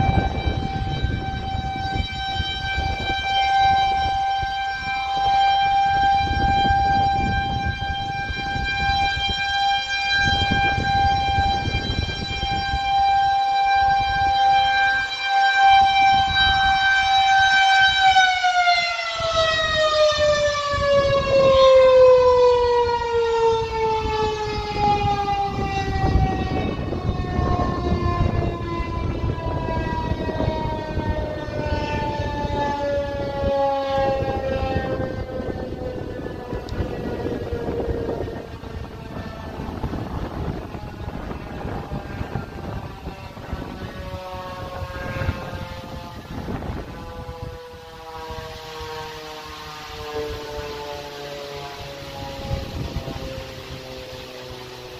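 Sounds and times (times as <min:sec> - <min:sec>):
rotating warning siren wailing: 0:00.0 - 0:54.9.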